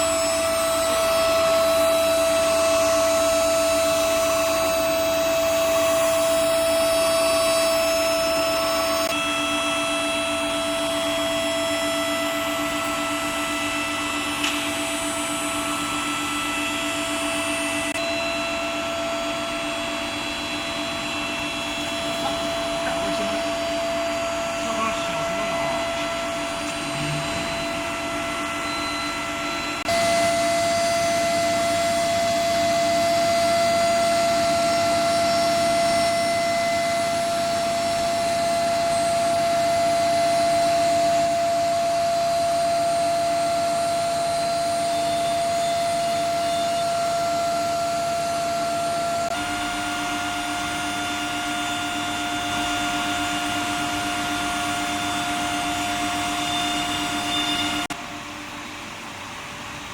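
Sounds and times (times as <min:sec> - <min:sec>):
machine whine: 0:00.0 - 0:59.9
whirring hum: 0:00.0 - 0:59.9.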